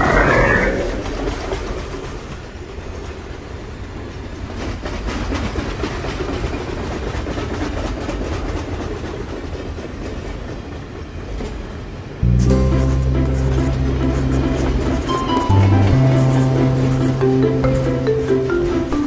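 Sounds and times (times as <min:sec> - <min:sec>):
freight train rumble: 0:00.9 - 0:19.0.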